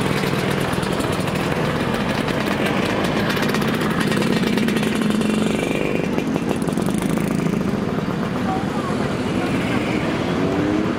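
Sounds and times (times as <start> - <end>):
motor scooters passing: 0.0 - 10.9.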